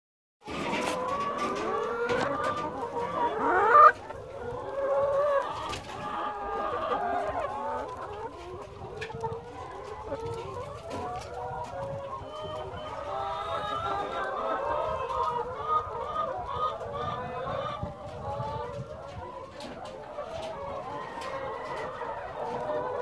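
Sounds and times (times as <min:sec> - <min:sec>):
hens clucking: 0:00.4 - 0:23.0.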